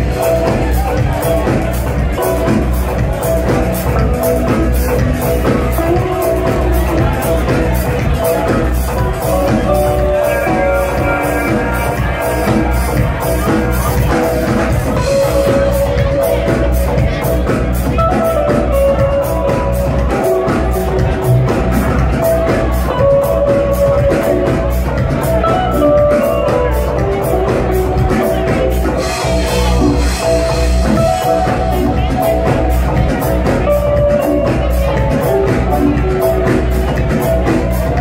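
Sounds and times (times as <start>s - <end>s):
electronic dance music: 0.0s - 38.0s.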